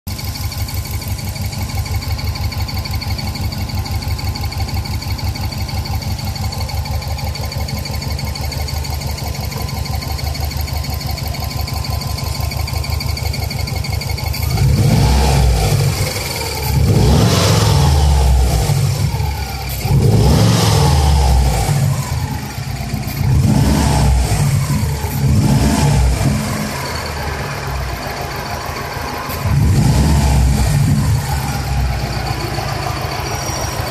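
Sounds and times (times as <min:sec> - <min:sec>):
car engine idling: 0:00.1 - 0:33.9
engine revving in throttle blips: 0:00.3 - 0:33.9.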